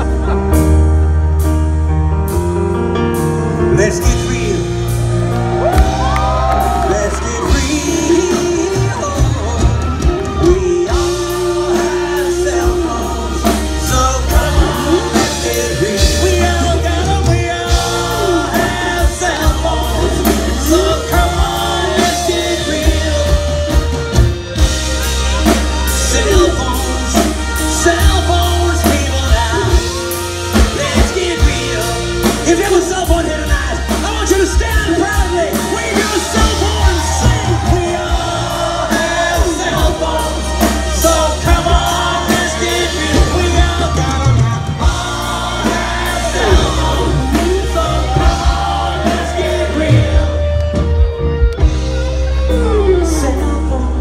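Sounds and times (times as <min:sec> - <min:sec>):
live rock band playing: 0:00.0 - 0:54.0
man singing: 0:03.6 - 0:05.0, 0:06.0 - 0:50.9, 0:52.4 - 0:54.0.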